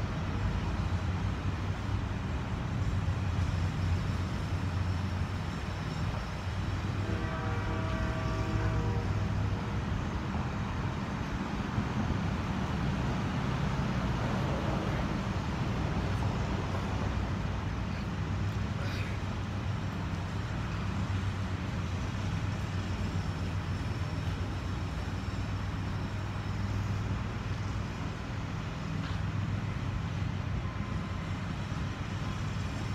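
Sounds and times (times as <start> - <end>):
low rumble of traffic: 0.0 - 32.9.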